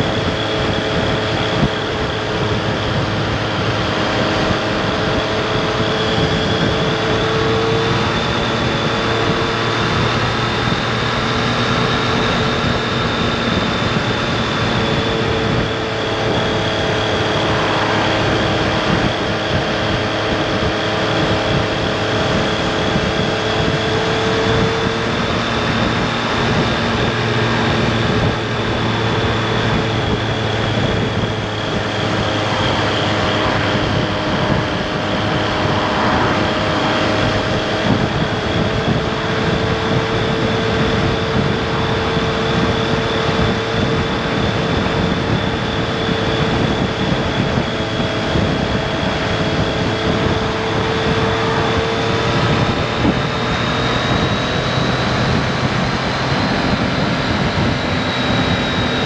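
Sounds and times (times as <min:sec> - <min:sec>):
motorcycle engine cruising: 0:00.0 - 0:59.0
road noise: 0:00.0 - 0:59.0
wind noise: 0:00.0 - 0:59.0.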